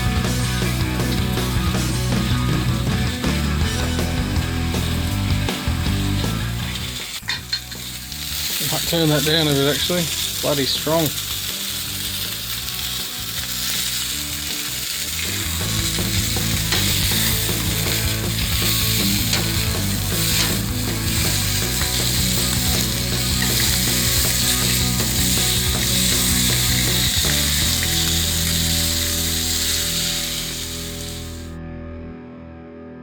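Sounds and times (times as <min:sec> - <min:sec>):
food sizzling on a hot plate: 0:00.6 - 0:31.5.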